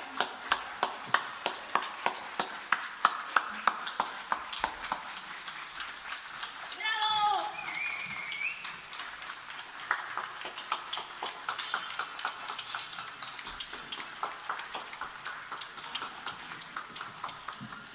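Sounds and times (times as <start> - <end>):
rain drops ticking: 0.0 - 17.9.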